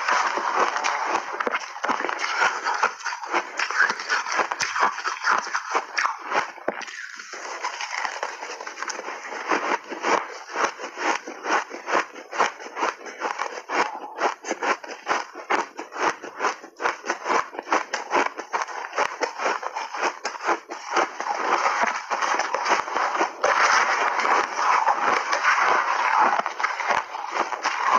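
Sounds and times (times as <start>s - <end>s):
ice crunched between teeth: 0.0s - 27.9s.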